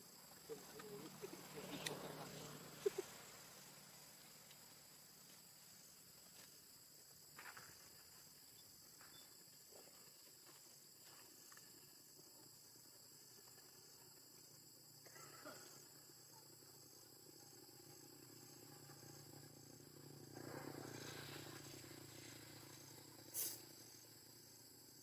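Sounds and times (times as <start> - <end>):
faint high insect drone: 0.0 - 25.0.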